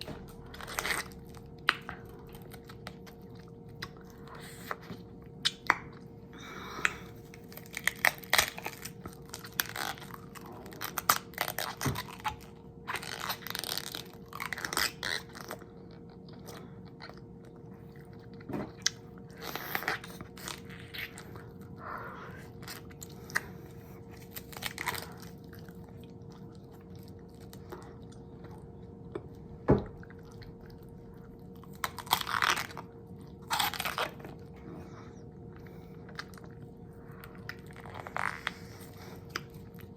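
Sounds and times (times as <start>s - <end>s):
chewing and crunching food: 0.0s - 39.9s
faint steady hum: 0.0s - 39.9s.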